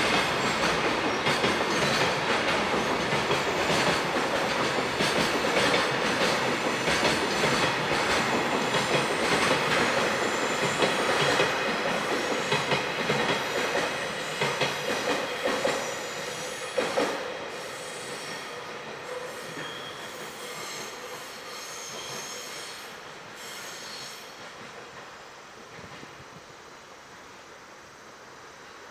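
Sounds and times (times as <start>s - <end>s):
wheels squealing against rails: 0.0s - 25.2s
freight train rolling past: 0.0s - 26.3s.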